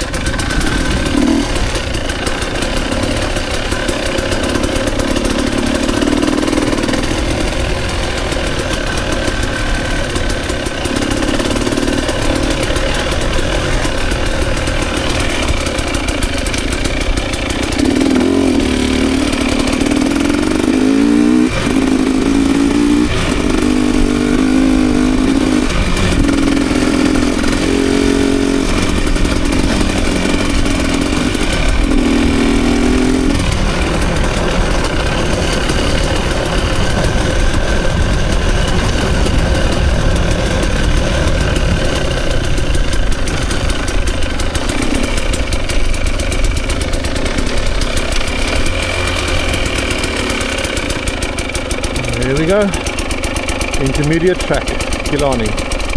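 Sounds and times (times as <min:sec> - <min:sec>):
dirt bike engine revving: 0:00.0 - 0:55.9
wind and riding noise: 0:00.0 - 0:55.9.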